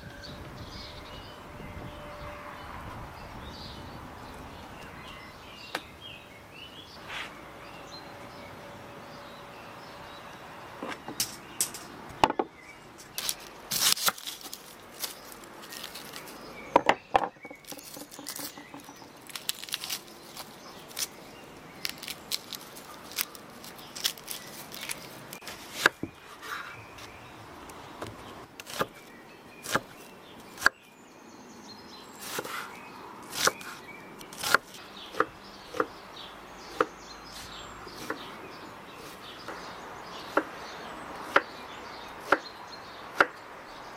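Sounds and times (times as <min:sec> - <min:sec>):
birds chirping faintly: 0:00.0 - 0:43.9.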